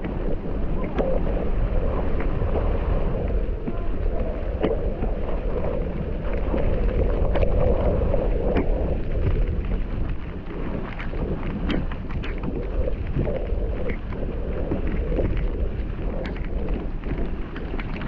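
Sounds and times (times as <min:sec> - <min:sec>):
bike tyres rumbling on dirt: 0:00.0 - 0:18.0
wind buffeting microphone: 0:00.0 - 0:18.0.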